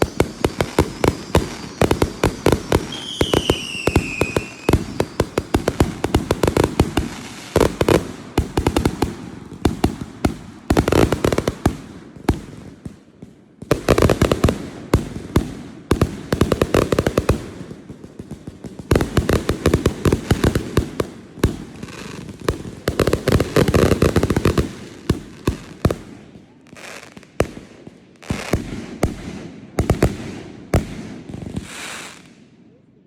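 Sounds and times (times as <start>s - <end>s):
fireworks crackling pops: 0.0s - 32.4s
fireworks sharp bangs: 0.0s - 32.4s.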